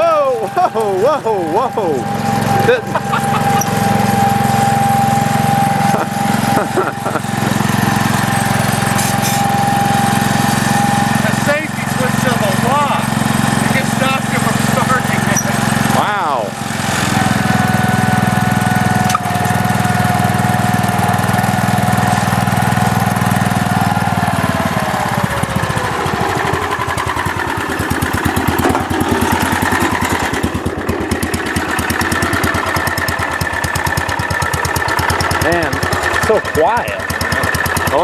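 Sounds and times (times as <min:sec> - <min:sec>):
single-cylinder engine running: 0:00.0 - 0:38.0.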